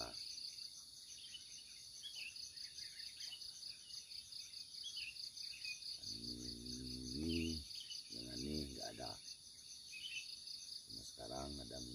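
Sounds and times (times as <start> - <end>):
bird chirping: 0.0 - 11.9
insects chirring: 0.0 - 11.9.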